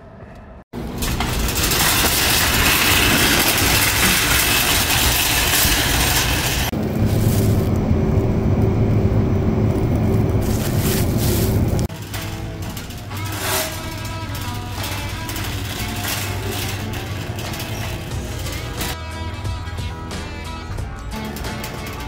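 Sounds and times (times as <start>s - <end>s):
shopping cart rattling on pavers: 0.8s - 7.7s, 9.8s - 19.0s, 20.5s - 22.0s
steady low hum: 0.8s - 19.0s.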